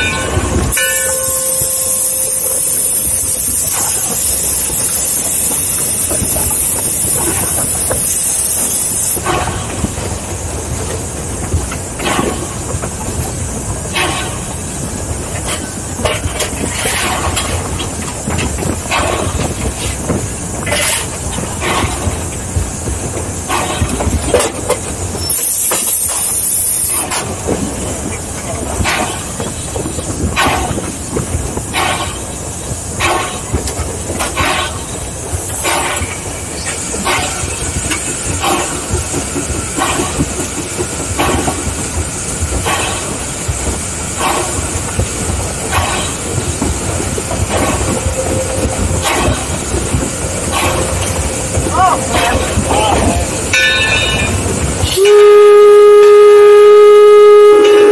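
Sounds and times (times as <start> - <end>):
high steam hiss: 0.0 - 57.9
steam locomotive rumbling: 0.0 - 57.9.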